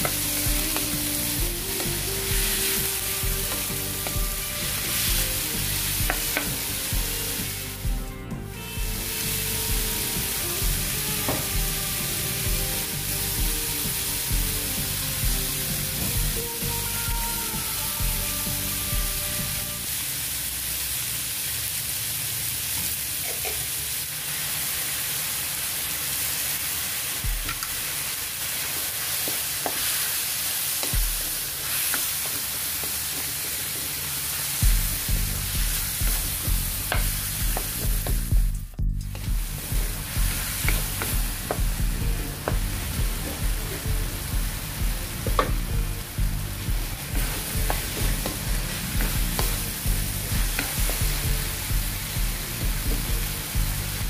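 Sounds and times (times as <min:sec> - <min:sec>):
spatula scraping a wok: 0:00.0 - 0:19.9, 0:27.3 - 0:38.2, 0:39.5 - 0:54.0
vegetables sizzling in oil: 0:00.0 - 0:54.0.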